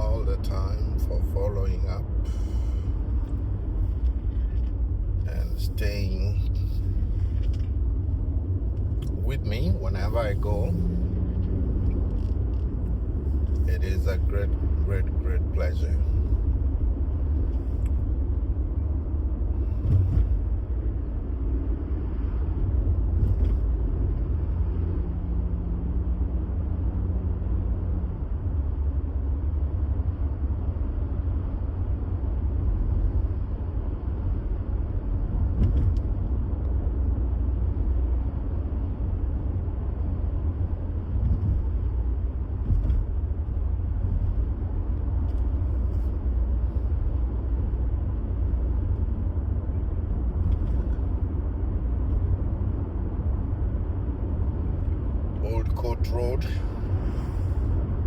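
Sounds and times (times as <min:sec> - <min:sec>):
car tyres and engine rumbling: 0:00.0 - 0:58.0.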